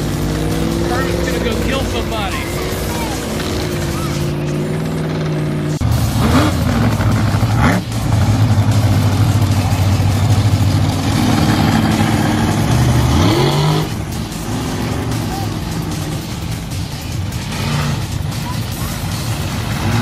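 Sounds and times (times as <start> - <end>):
monster truck engines revving: 0.0 - 20.0.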